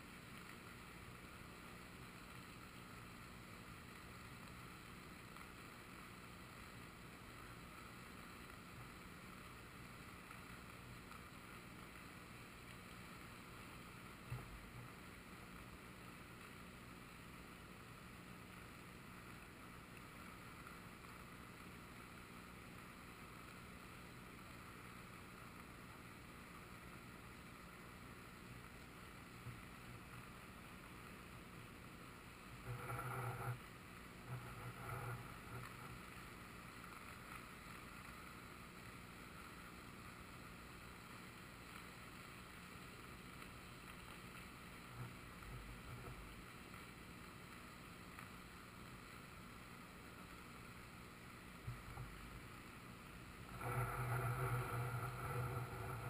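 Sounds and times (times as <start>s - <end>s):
faint rushing river: 0.0s - 56.0s.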